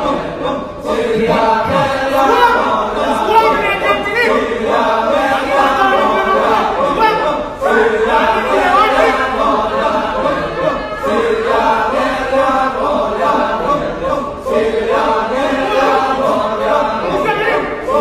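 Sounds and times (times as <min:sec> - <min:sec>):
group chanting a cappella: 0:00.0 - 0:18.0.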